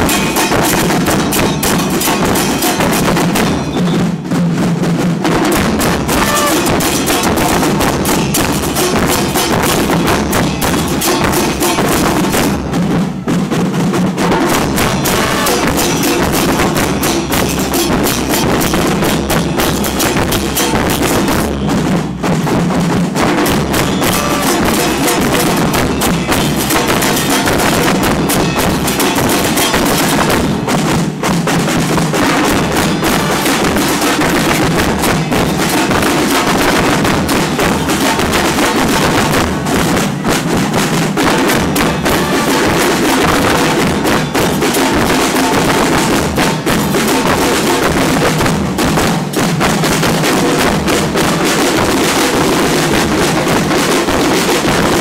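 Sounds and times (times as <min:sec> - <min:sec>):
cymbals crashing: 0:00.0 - 0:04.3, 0:05.4 - 0:13.2, 0:14.3 - 0:22.5, 0:23.2 - 0:55.0
fast drumming on bass drums: 0:00.0 - 0:55.0.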